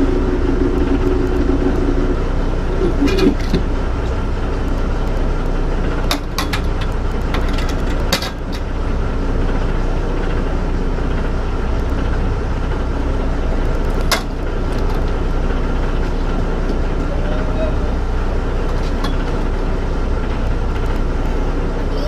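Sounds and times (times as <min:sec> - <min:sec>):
boat engine low rumble: 0:00.0 - 0:22.0.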